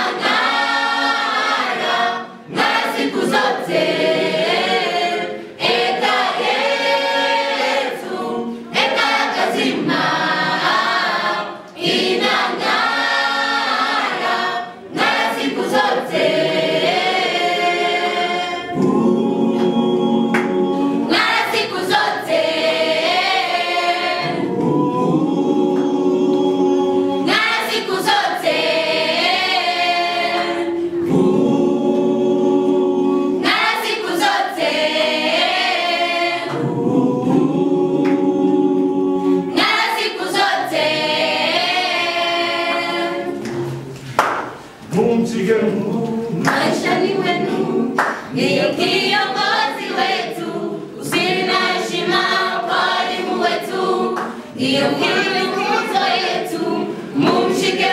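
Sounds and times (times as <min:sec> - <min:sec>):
choir singing unaccompanied: 0:00.0 - 0:44.2, 0:44.8 - 0:57.9.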